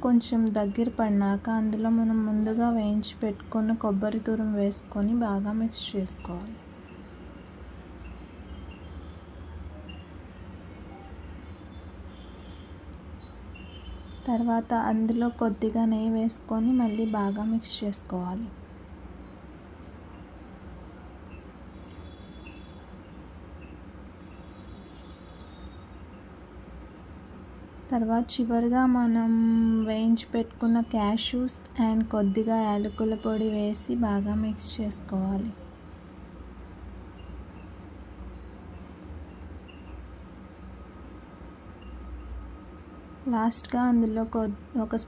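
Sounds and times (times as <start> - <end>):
low background hum: 0.0 - 45.0
small birds chirping: 0.0 - 45.0.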